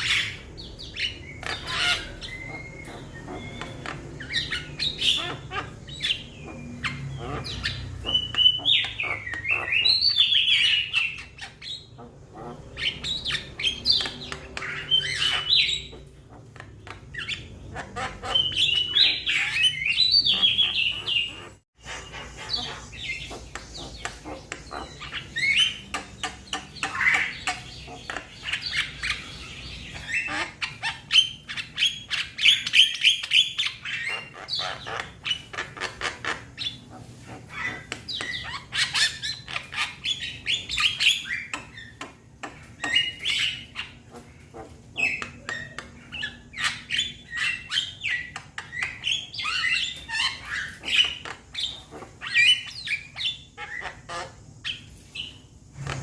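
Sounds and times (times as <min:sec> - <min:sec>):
mynas calling: 0:00.0 - 0:56.0.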